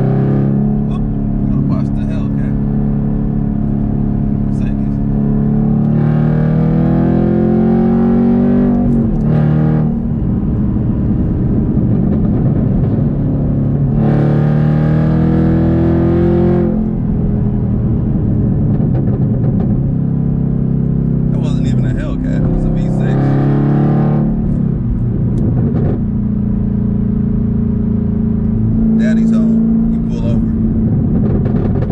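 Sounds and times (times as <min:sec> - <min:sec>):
car engine accelerating: 0:00.0 - 0:31.9.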